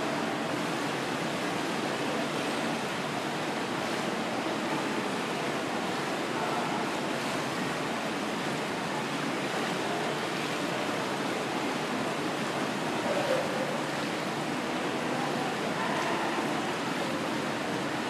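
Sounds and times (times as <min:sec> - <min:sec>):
moving water in pool: 0:00.0 - 0:18.0.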